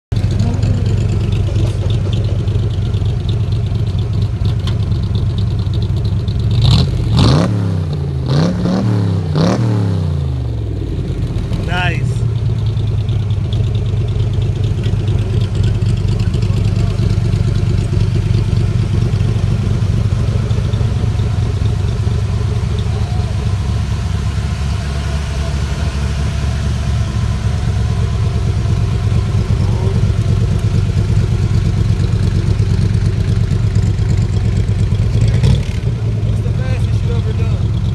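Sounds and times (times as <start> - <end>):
car engine idling: 0.1 - 37.9.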